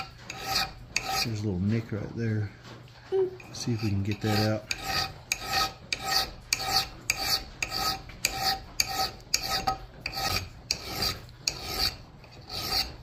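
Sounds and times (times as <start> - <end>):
hand file rasping on steel: 0.0 - 1.7, 3.4 - 13.0.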